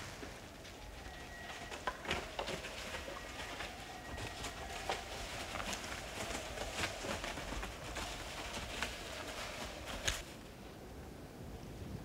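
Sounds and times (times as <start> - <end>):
animals running through dry leaves: 0.0 - 10.6.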